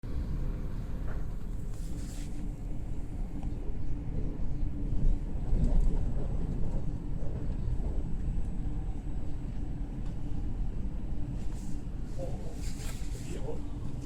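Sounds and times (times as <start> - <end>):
train low rumble: 0.0 - 14.0
faint constant hum: 0.1 - 14.0.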